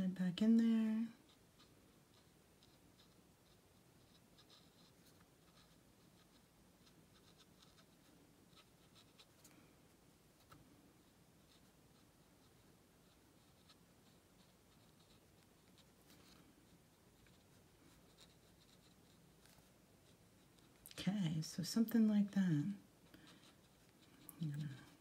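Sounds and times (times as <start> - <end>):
brush pen scratching on paper: 0.5 - 9.6, 10.4 - 20.9, 21.8 - 25.0.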